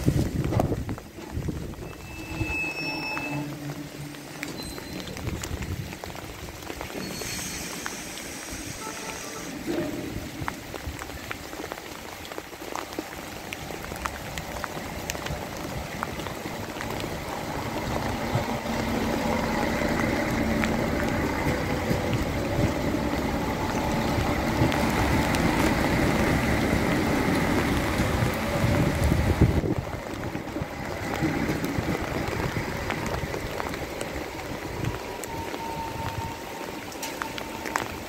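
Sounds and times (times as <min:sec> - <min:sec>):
passenger train passing: 0:00.0 - 0:10.9, 0:13.1 - 0:38.0
rain falling: 0:00.0 - 0:38.0.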